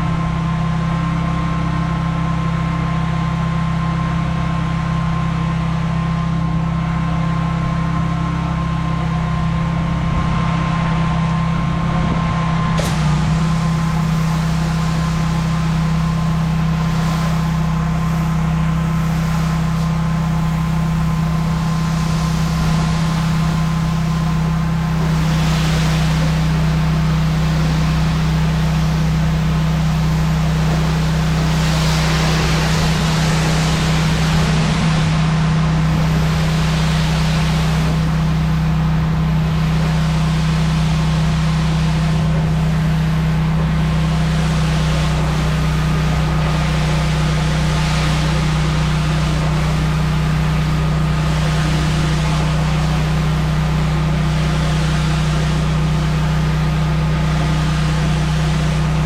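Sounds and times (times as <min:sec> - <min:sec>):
pressure washer engine humming: 0:00.0 - 0:59.0
water spraying onto concrete: 0:00.1 - 0:59.0.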